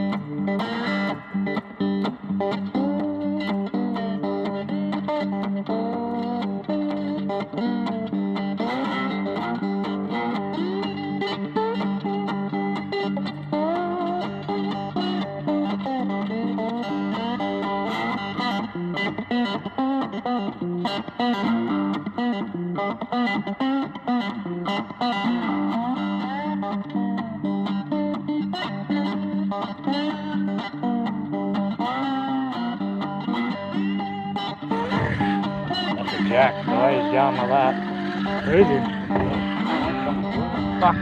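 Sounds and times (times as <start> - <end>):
distorted electric guitar music: 0.0 - 41.0.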